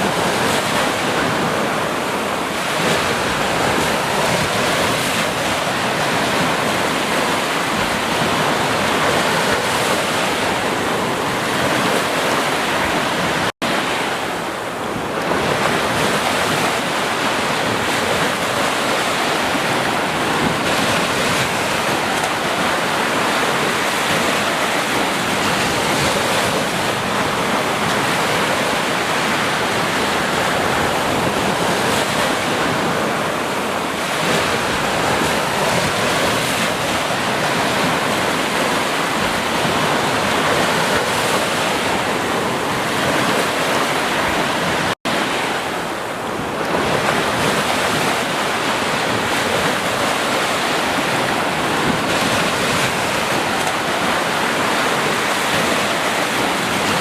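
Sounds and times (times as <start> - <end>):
ocean waves washing onto beach: 0.0 - 57.0.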